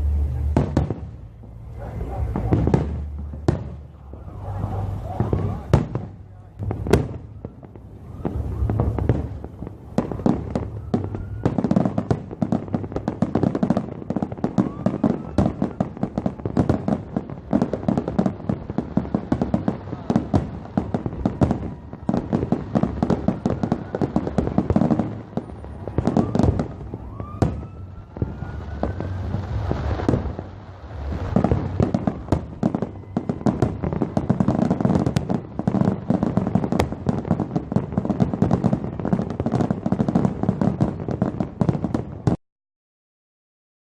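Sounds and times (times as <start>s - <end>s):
fireworks bangs and crackles: 0.0s - 42.4s
rising firework whistles: 0.0s - 42.4s.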